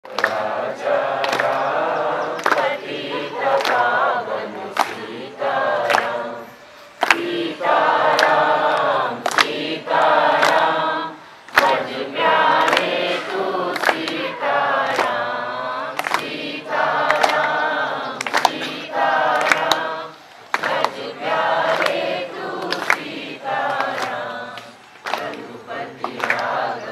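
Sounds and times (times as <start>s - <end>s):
children singing in unison: 0.0s - 26.9s.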